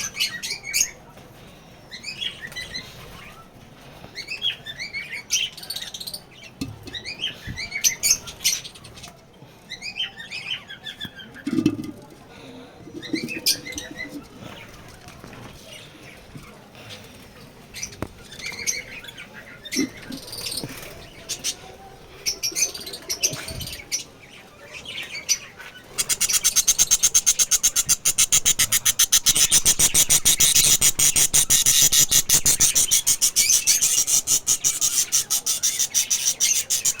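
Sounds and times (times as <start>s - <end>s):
rapid pulsing bird chatter: 0.0s - 37.0s
lovebirds chirping: 1.9s - 37.0s.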